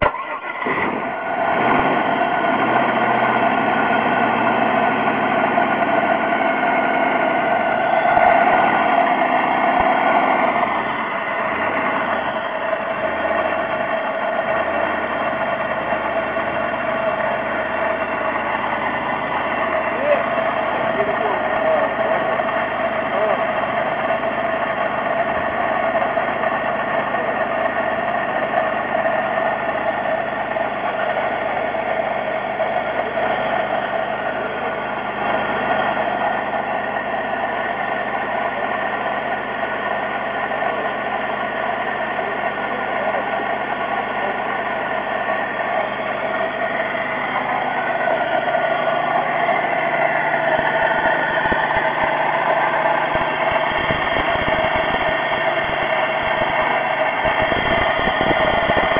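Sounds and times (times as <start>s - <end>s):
car engine running steadily: 0.0s - 58.9s.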